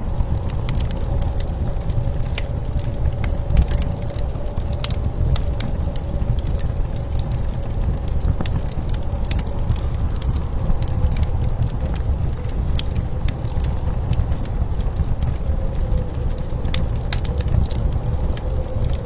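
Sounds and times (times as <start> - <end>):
low rumble of blizzard wind: 0.0 - 19.0
wood fire crackling and popping: 0.0 - 19.0.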